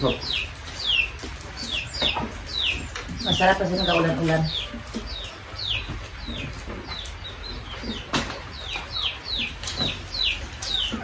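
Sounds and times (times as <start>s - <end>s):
bird peeping: 0.0s - 11.0s.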